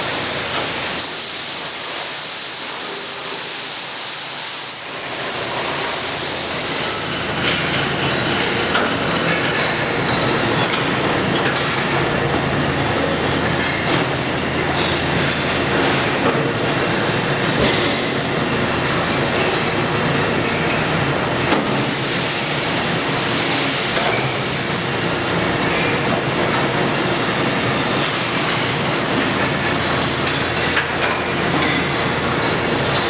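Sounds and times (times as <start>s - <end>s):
industrial machinery running: 4.8s - 33.0s.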